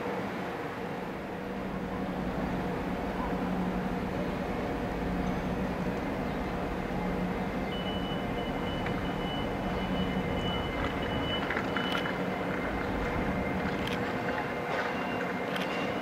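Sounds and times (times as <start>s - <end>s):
train low hum and rumble: 0.0s - 16.0s.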